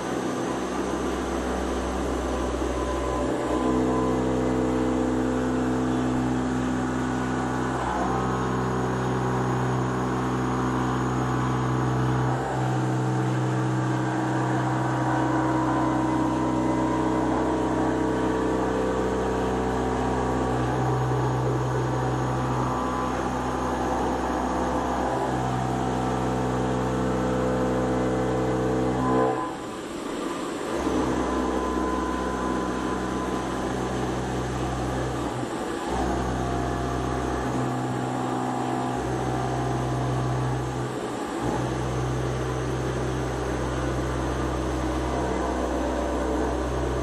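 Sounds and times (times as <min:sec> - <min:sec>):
milling machine hum and whine: 0:00.0 - 0:47.0.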